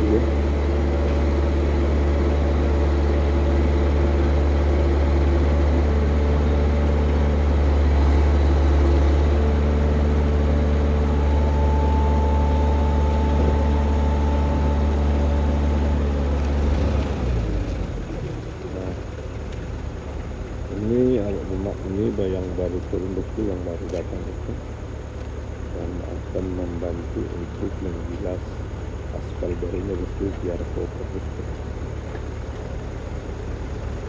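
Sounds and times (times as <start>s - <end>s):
faint steady whine: 0.0s - 34.0s
heavy diesel engine running: 0.0s - 34.0s.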